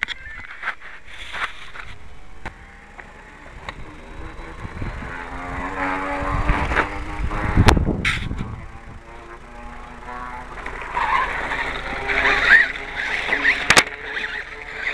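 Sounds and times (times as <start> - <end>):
toy motorcycle motor whining: 0.0 - 14.9.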